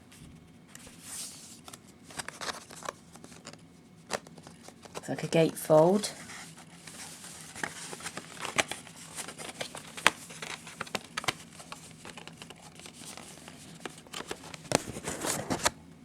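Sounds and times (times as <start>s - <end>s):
cardboard rustling and crinkling: 0.1s - 5.2s, 6.0s - 15.8s.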